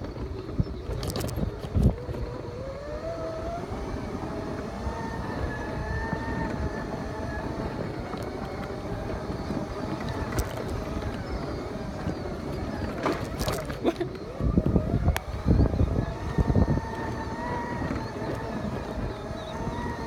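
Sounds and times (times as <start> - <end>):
electric motors whining: 0.0 - 20.0
tyres rumbling on gravel: 0.0 - 20.0.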